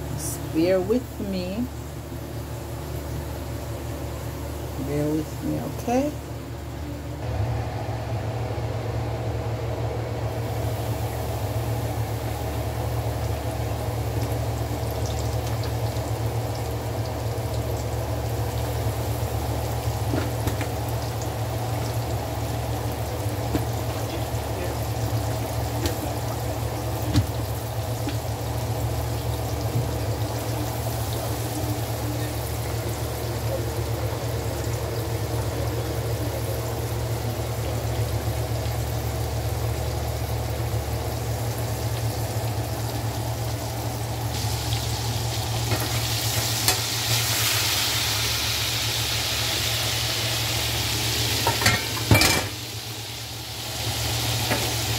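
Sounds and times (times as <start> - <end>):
low steady hum: 0.0 - 54.9
meat sizzling in hot oil: 10.3 - 54.9.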